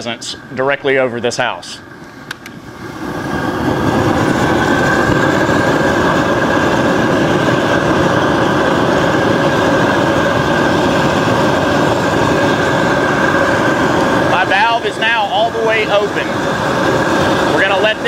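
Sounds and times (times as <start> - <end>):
propane burner roaring: 0.0 - 18.0.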